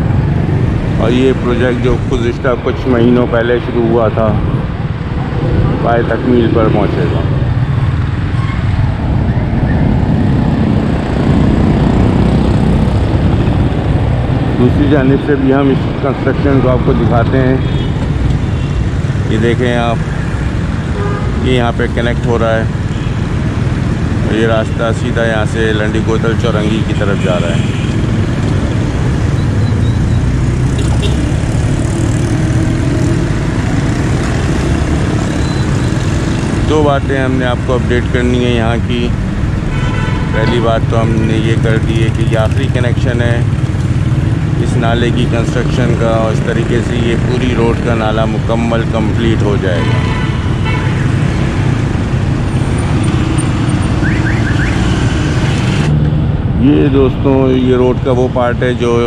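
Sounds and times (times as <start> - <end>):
motorcycles driving past: 0.0 - 58.2
engine hum: 0.0 - 59.0
road traffic rumble: 0.0 - 59.0.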